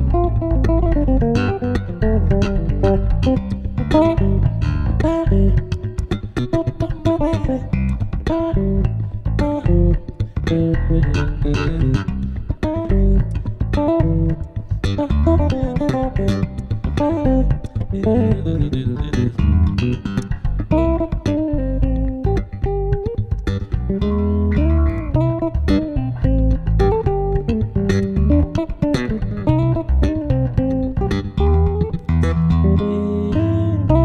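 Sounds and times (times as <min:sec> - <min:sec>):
bass guitar groove: 0:00.0 - 0:34.0
bass guitar melody: 0:00.0 - 0:34.0.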